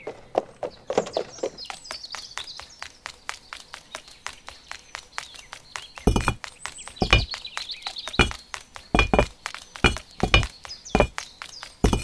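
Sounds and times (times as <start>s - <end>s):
faint birds chirping: 0.0s - 12.0s
small bricks knocking together: 1.6s - 12.0s.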